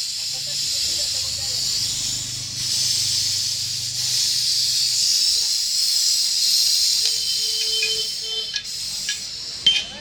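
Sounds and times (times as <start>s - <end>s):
spray jet hissing: 0.0s - 10.0s.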